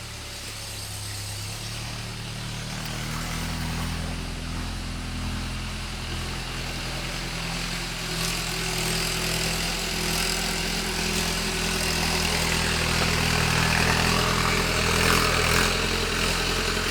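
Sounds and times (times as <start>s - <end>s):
ploughing machine engine running: 0.0s - 16.9s.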